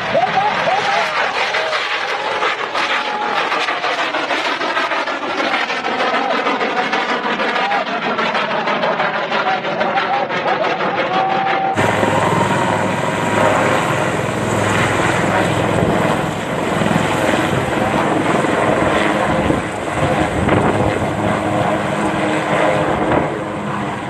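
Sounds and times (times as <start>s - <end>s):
helicopter rotor and engine: 0.0s - 24.0s.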